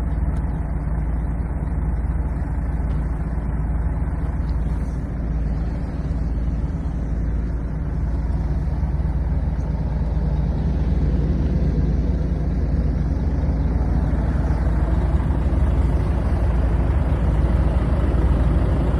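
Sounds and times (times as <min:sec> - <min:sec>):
truck diesel engine running: 0:00.0 - 0:18.9.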